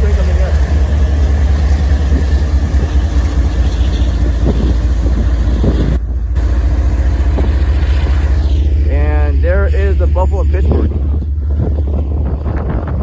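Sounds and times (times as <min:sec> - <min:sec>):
diesel locomotive rumbling: 0:00.0 - 0:13.0
wind buffeting microphone: 0:01.0 - 0:08.8, 0:09.5 - 0:13.0.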